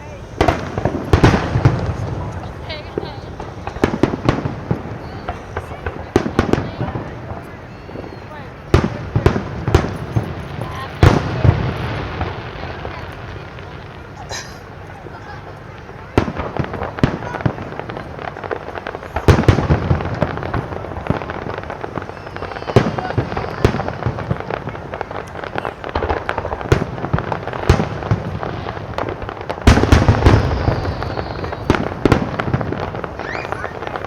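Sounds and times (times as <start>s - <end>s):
fireworks bangs and crackling: 0.0s - 34.0s
heavy firework booms: 0.0s - 34.0s.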